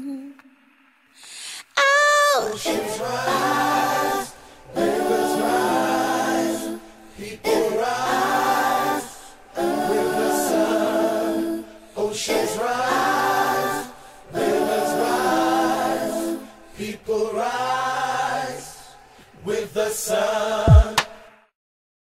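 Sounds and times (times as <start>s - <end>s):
a cappella singing: 0.0s - 0.6s, 1.6s - 21.5s.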